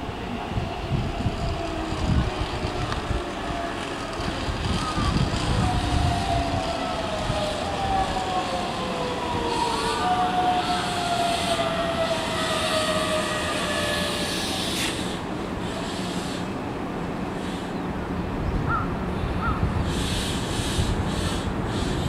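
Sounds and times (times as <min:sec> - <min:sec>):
braking train whine: 0:00.0 - 0:17.8
wheels rumbling on rail: 0:00.0 - 0:22.0.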